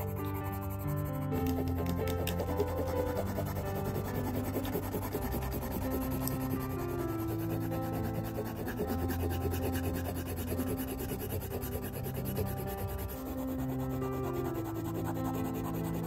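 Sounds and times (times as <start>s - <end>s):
pencil shading on paper: 0.0s - 16.0s.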